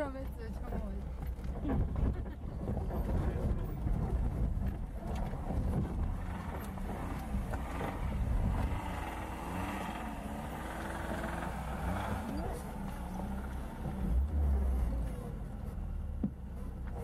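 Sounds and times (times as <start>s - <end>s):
car body rattling over bumps: 0.0s - 14.2s.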